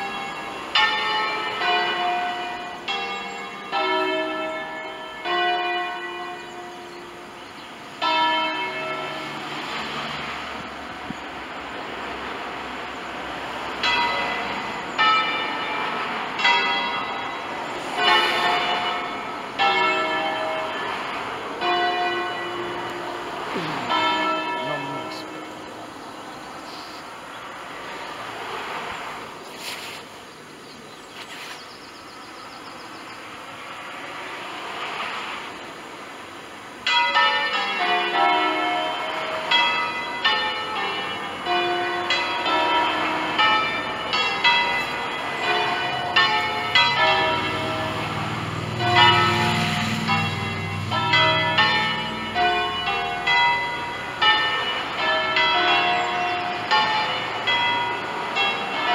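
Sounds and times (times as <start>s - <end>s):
church bells ringing: 0.0s - 26.1s, 36.7s - 58.9s.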